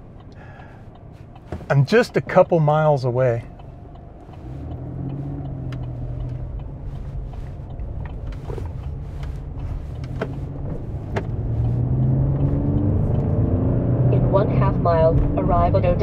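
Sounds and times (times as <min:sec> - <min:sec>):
engine and road drone: 0:00.0 - 0:16.0.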